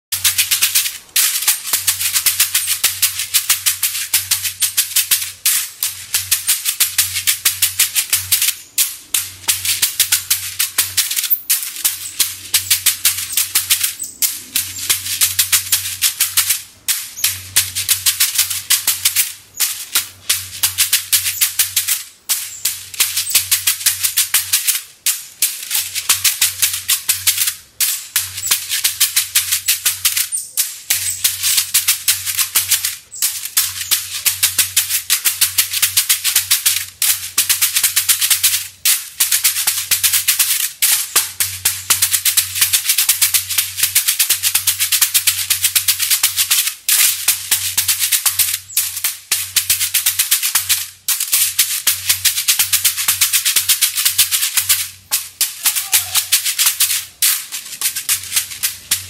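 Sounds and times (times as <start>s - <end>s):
bead gourd rattling: 0.1s - 59.0s.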